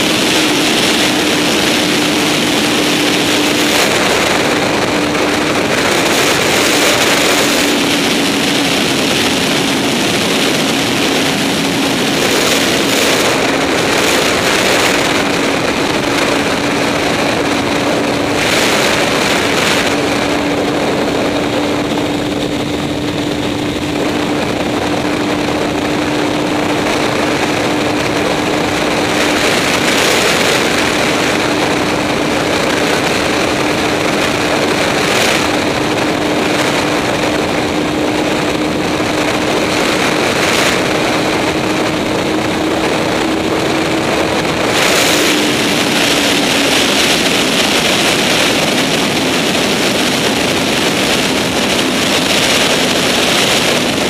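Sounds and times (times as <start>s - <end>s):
motorcycle engine at high revs: 0.0s - 54.0s
wind rush on microphone: 0.0s - 54.0s.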